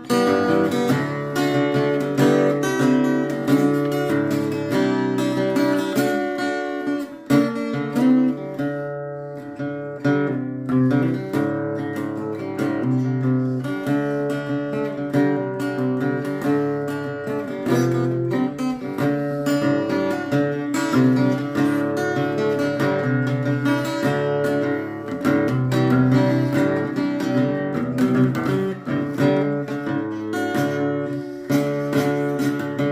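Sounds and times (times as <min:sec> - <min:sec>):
acoustic guitar strumming: 0:00.0 - 0:32.9.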